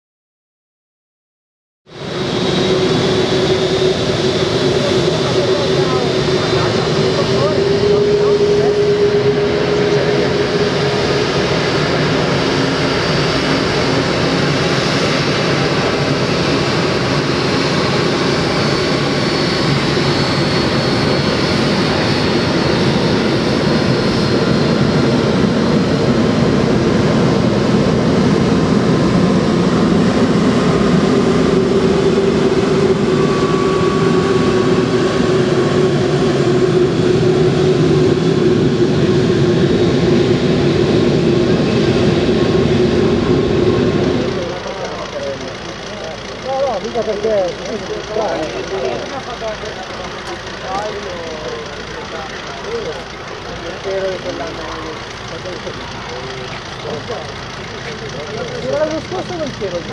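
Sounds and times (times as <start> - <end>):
jet engines at taxi thrust: 1.9 - 59.9.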